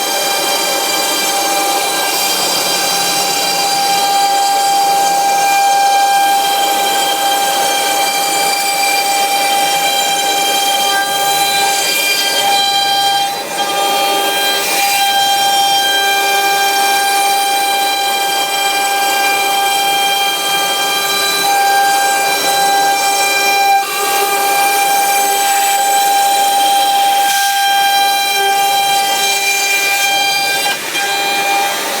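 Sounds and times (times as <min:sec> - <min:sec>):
router spindle high whine: 0:00.0 - 0:32.0.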